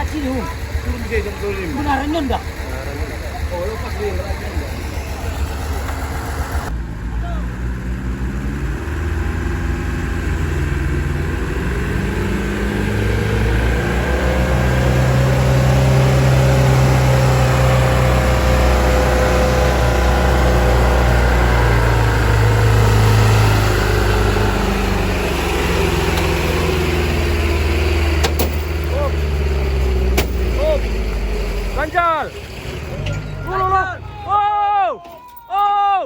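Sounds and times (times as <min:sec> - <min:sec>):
diesel truck engine under load: 0:00.0 - 0:35.5.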